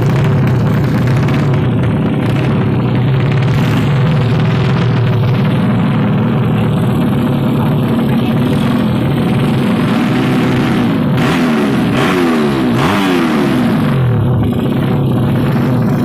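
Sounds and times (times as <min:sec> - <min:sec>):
engines revving: 0:00.0 - 0:16.0
motorcycle engines running: 0:00.0 - 0:16.0.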